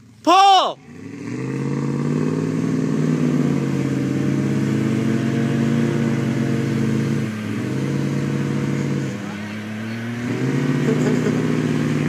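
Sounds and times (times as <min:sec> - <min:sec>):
tires spinning on wet grass: 0:00.0 - 0:12.0
truck engines revving high: 0:00.0 - 0:12.0.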